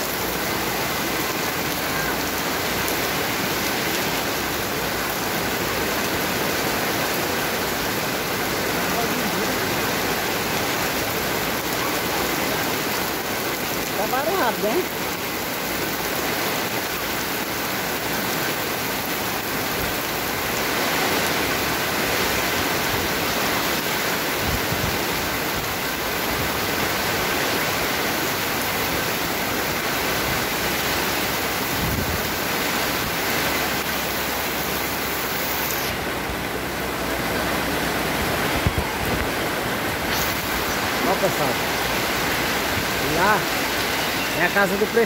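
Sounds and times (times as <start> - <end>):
heavy rain on pavement: 0.0 - 45.0.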